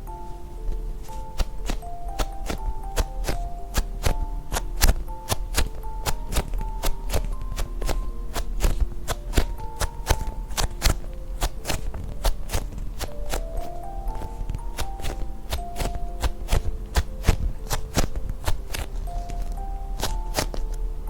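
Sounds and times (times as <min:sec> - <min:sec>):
gentle background music: 0:00.0 - 0:21.0
sharp taps and clicks: 0:01.0 - 0:20.8.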